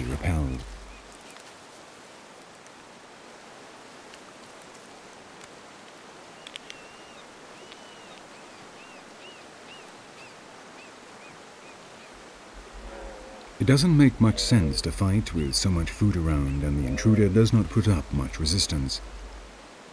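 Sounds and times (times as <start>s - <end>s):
river rushing: 0.0s - 19.9s.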